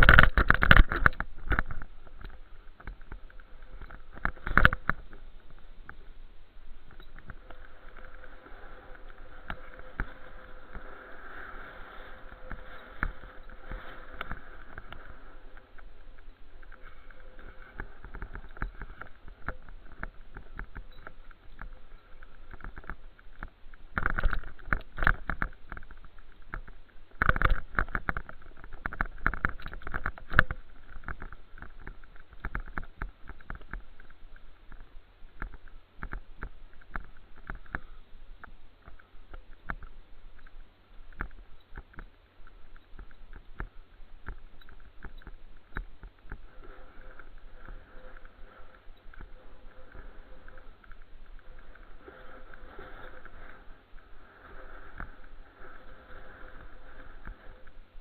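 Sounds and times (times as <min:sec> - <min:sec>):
bicycle riding rumble: 0:00.0 - 0:58.0.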